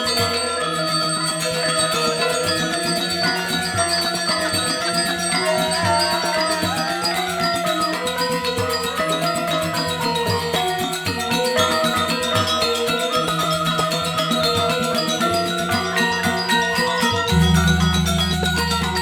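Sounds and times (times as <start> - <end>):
gamelan music: 0.0 - 19.0.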